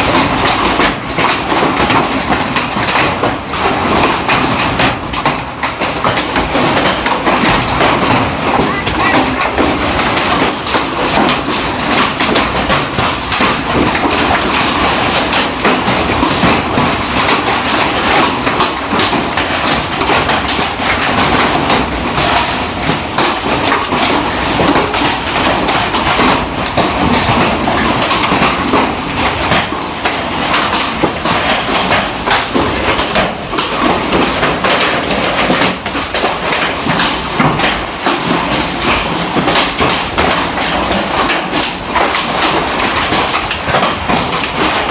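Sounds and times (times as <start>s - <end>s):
hailstones pelting a hard surface: 0.0s - 44.9s.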